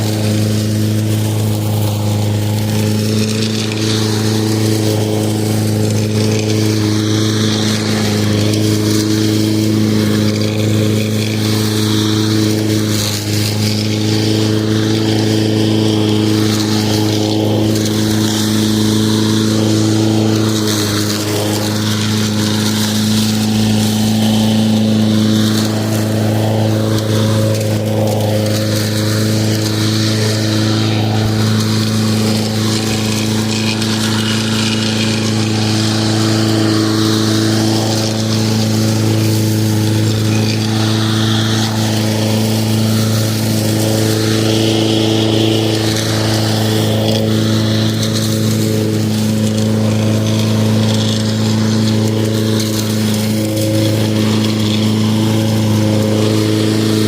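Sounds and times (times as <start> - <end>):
lawn mower running: 0.0 - 57.0.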